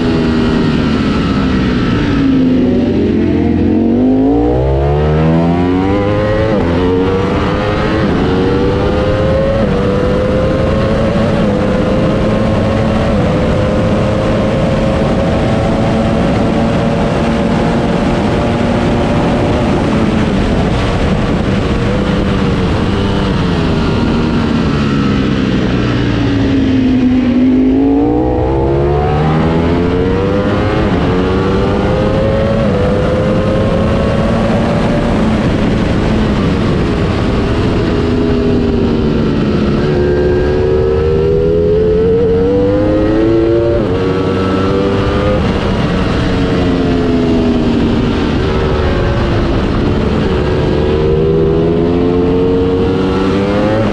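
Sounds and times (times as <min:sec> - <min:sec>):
motorcycle engine at speed: 0:00.0 - 0:53.9.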